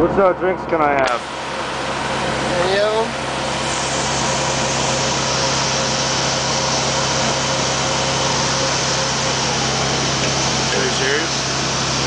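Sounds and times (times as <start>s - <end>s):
truck engine idling: 1.2s - 12.0s.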